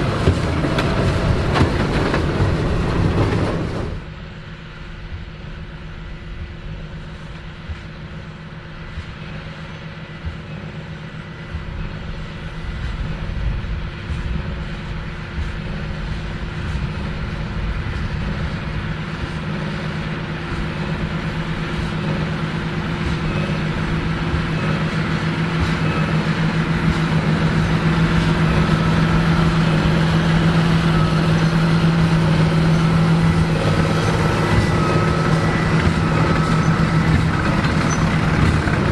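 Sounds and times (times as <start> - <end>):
tractor diesel engine under load: 0.0 - 4.6, 6.8 - 38.9.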